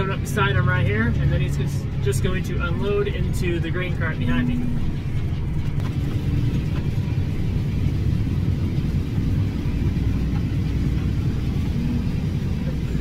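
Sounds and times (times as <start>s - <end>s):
farm machinery engine rumble: 0.0s - 13.0s.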